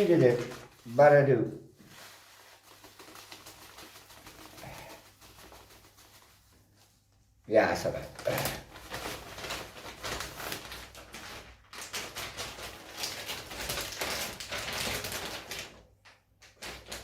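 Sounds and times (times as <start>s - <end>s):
plastic bag rustling and crackling: 0.0s - 7.1s, 7.8s - 17.0s.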